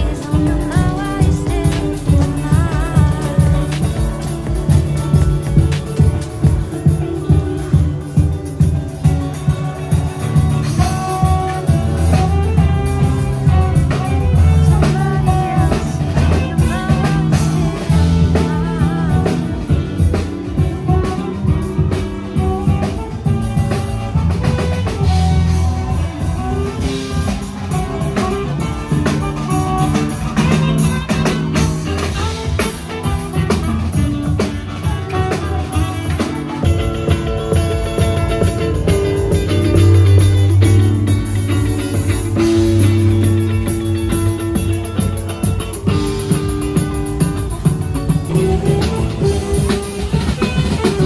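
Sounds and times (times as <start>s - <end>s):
bluesy guitar: 0.0s - 51.0s
drum kit: 0.0s - 51.0s.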